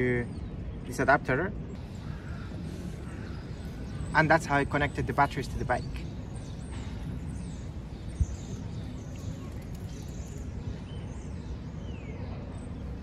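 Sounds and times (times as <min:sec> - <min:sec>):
faint bird chirps: 0:01.7 - 0:13.0.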